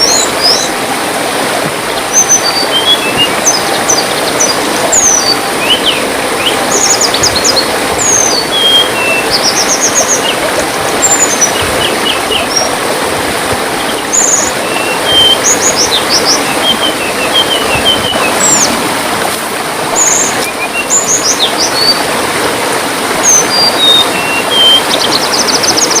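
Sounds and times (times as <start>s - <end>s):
birds chirping and trilling: 0.0s - 22.1s, 23.2s - 26.0s
running water trickling: 0.0s - 26.0s.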